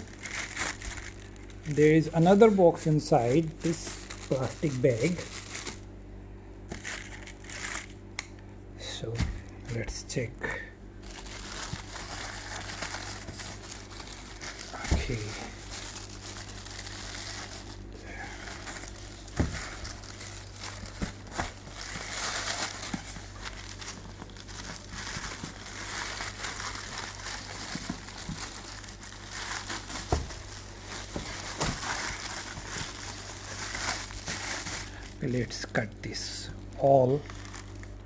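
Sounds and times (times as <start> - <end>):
plastic bag crinkling: 0.0 - 6.0, 6.7 - 8.1, 9.4 - 38.0.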